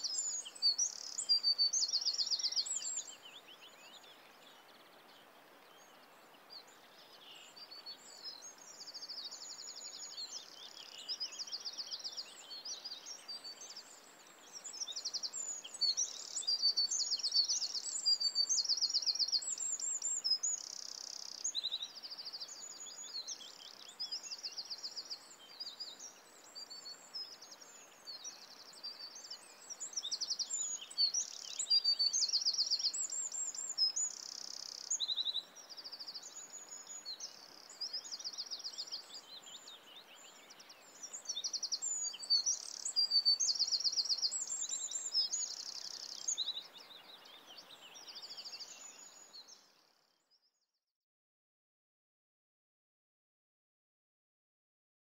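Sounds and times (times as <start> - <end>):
faint background hiss: 0.0 - 50.6
small birds chirping: 0.0 - 50.7.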